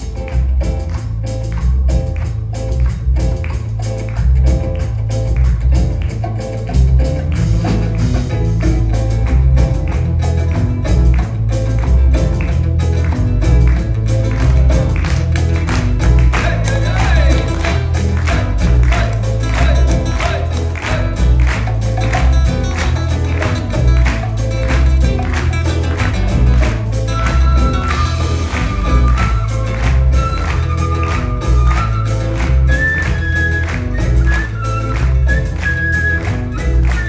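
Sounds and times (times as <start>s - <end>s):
sharp percussion hits: 0.0s - 34.3s
bass line: 0.0s - 37.0s
plucked strings: 2.7s - 37.0s.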